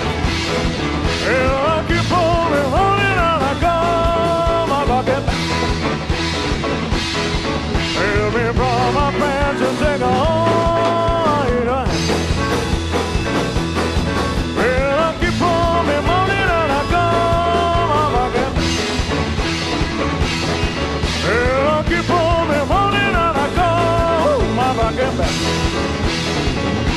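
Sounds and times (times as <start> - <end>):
rock and roll band playing: 0.0 - 26.9.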